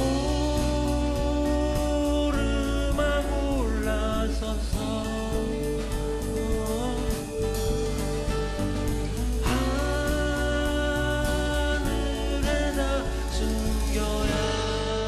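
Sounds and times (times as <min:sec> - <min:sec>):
acoustic guitar: 0:00.0 - 0:15.0
bass line: 0:00.0 - 0:15.0
man singing: 0:00.0 - 0:15.0.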